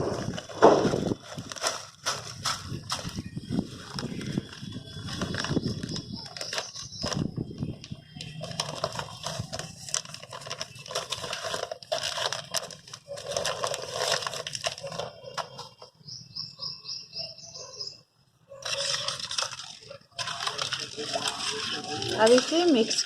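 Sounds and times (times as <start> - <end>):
plastic packet crinkling: 0.0 - 16.0, 18.6 - 23.0
powder pouring with clicks: 0.1 - 15.8, 18.6 - 23.0.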